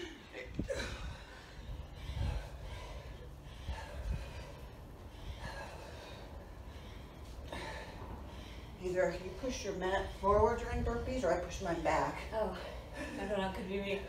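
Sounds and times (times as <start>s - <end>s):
people breathing hard: 0.0s - 11.0s, 12.1s - 13.6s.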